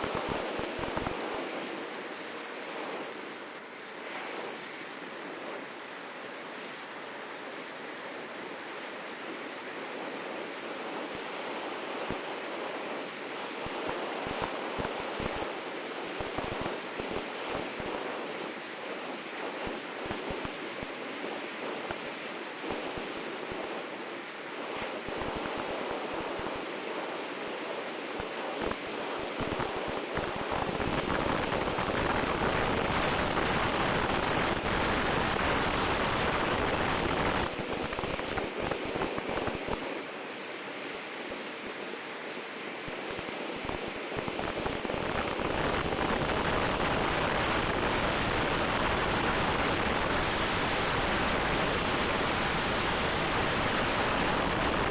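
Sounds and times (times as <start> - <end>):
airflow rushing over microphone: 0.0 - 54.9.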